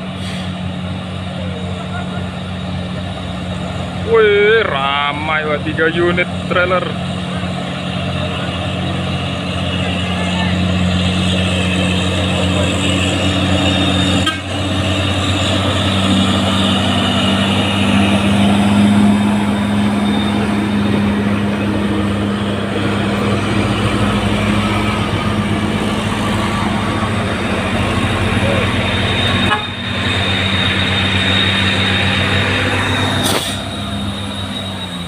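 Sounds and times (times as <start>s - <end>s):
truck diesel engines labouring: 0.0s - 35.0s.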